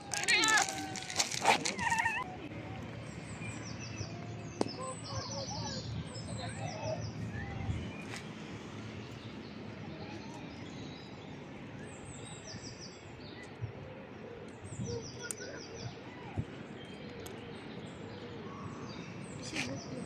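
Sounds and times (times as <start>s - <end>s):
outdoor background noise: 0.0s - 20.0s
small birds chirping: 0.0s - 20.0s.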